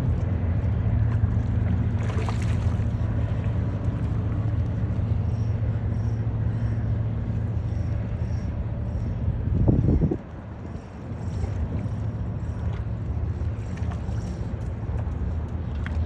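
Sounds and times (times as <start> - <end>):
ship engines humming: 0.0 - 16.0.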